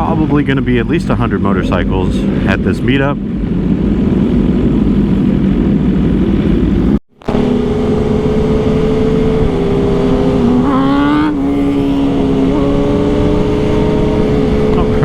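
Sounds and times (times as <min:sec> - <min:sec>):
road rumble: 0:00.0 - 0:15.0
wind: 0:00.0 - 0:15.0.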